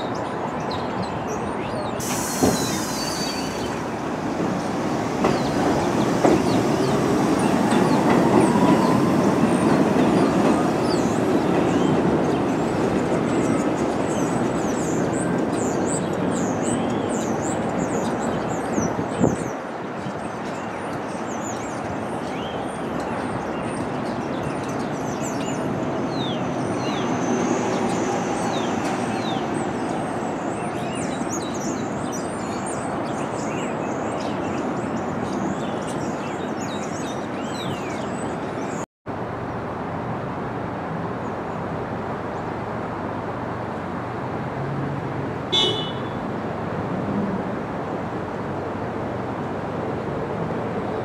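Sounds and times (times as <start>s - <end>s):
city noise hum: 0.0s - 51.0s
subway train rumbling: 0.0s - 51.0s.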